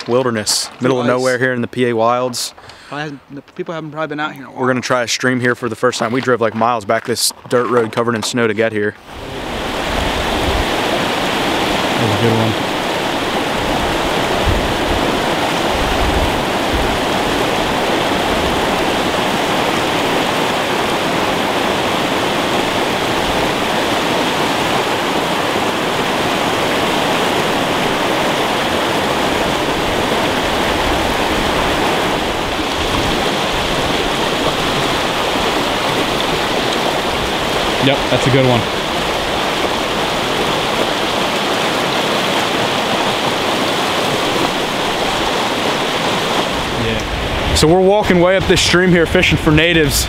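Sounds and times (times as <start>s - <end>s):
stream water rushing: 0.0s - 3.3s, 7.9s - 50.0s.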